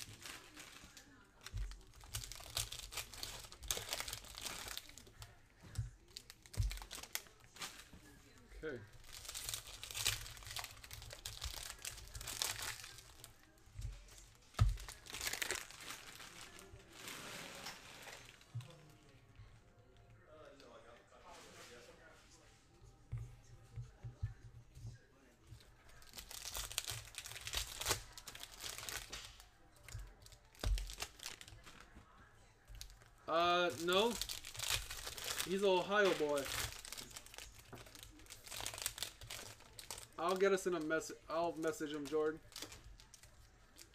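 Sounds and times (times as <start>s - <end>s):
plastic wrapper tearing and crinkling: 0.0s - 18.9s, 25.9s - 31.9s, 32.7s - 43.9s.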